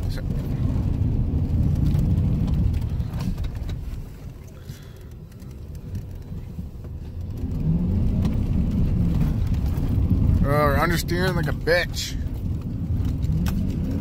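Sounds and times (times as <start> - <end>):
pickup truck engine rumbling: 0.0 - 14.0.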